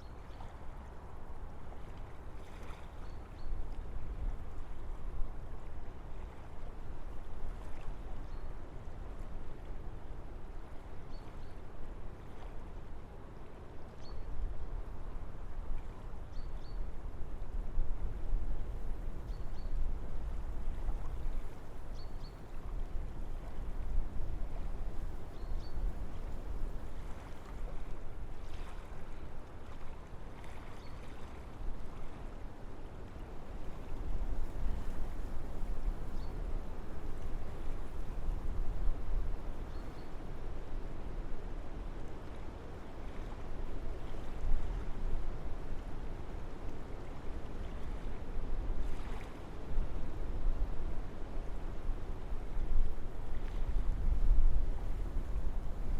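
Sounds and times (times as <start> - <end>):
wind through forest trees: 0.0 - 55.9.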